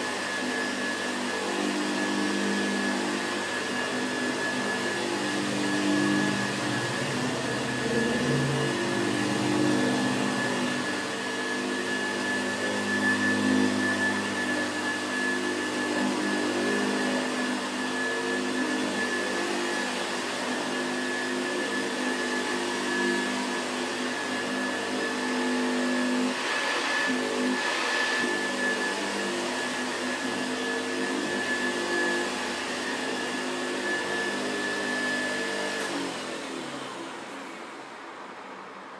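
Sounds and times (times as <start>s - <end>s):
vacuum cleaner winding down: 0.0s - 38.0s
vacuum cleaner running: 0.0s - 38.9s.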